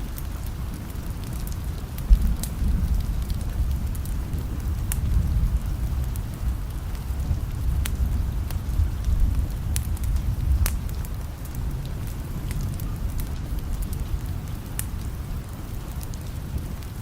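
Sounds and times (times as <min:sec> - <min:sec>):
fireplace crackling: 0:00.0 - 0:17.0
rain hiss: 0:00.0 - 0:17.0
distant thunder rumble: 0:00.2 - 0:17.0.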